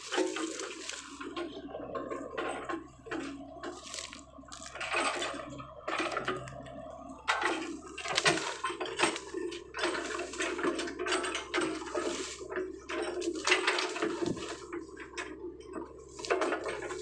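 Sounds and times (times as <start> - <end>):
excavator engine humming: 0.0 - 17.0
muddy water splashing: 0.0 - 17.0
rustling and crackling vegetation: 0.0 - 17.0.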